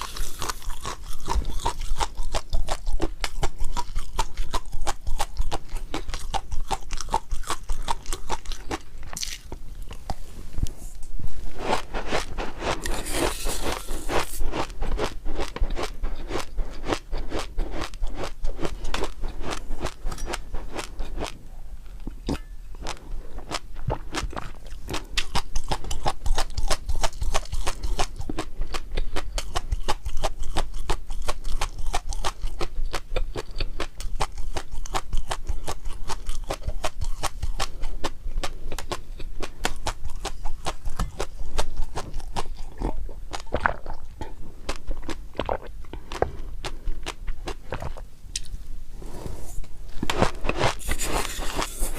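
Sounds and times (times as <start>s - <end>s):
crisp crunching and chewing: 0.0s - 10.2s, 11.6s - 21.4s, 22.0s - 48.6s.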